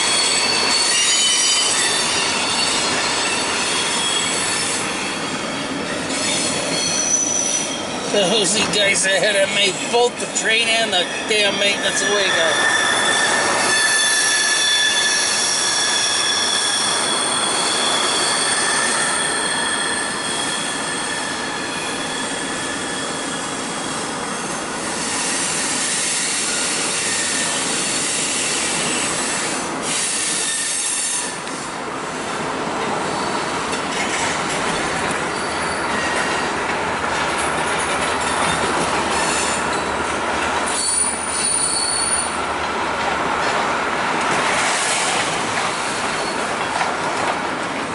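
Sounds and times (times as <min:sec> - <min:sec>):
train wheels squealing on rails: 0:00.0 - 0:42.5, 0:44.3 - 0:47.9.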